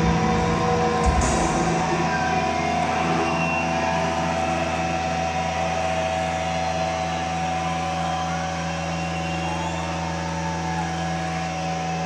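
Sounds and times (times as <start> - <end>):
amplifier feedback drone: 0.0 - 12.0.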